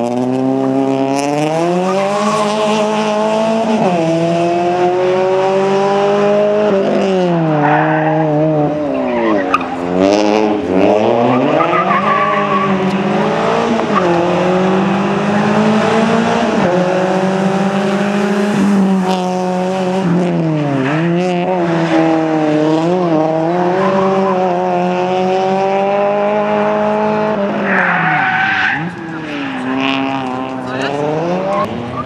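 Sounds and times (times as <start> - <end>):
rally car engine at high revs: 0.0 - 32.0.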